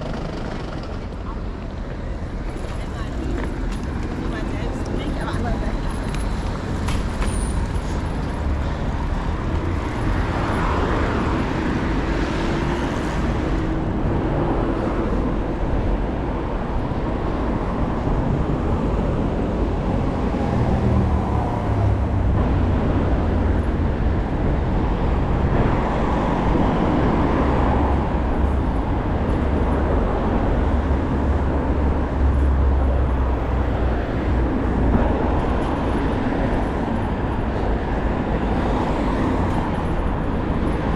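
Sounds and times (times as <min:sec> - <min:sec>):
vehicles passing: 0:00.0 - 0:40.9.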